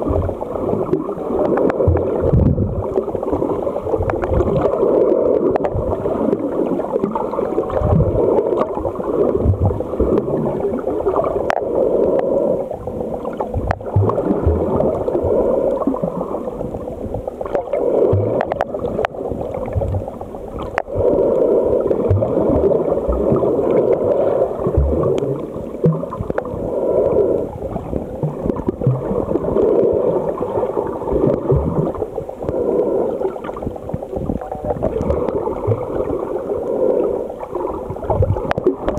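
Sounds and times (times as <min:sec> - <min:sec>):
underwater gurgling rush: 0:00.0 - 0:38.9.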